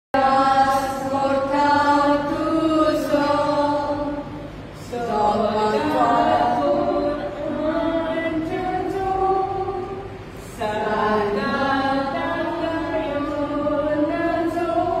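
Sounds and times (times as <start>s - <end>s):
women singing unaccompanied: 0.2s - 15.0s.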